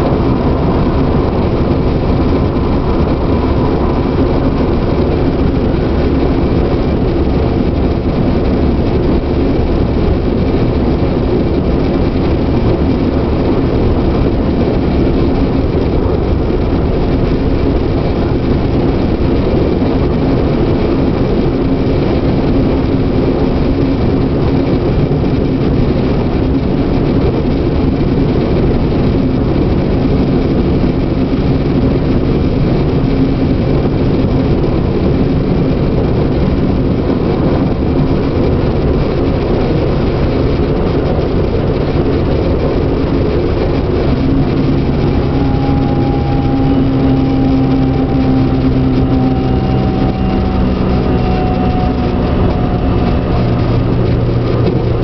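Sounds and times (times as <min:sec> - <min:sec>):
falling whine: 0:00.0 - 0:55.0
low motor hum: 0:00.0 - 0:55.0
wheels rumbling on rails: 0:00.0 - 0:55.0.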